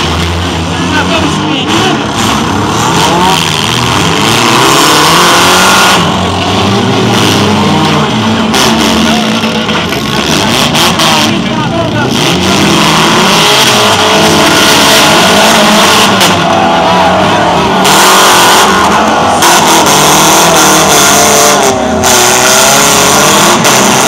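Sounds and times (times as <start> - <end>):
car engines revving hard: 0.0 - 24.0.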